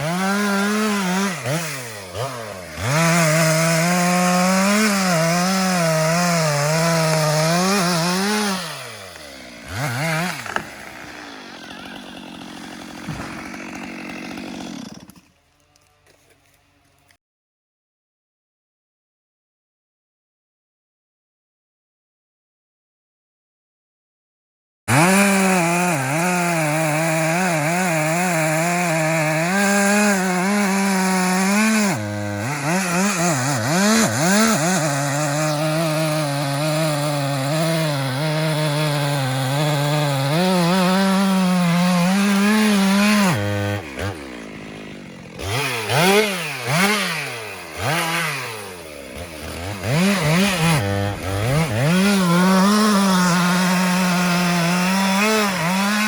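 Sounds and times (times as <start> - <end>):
chainsaw cutting wood: 0.0 - 17.2, 24.9 - 56.0.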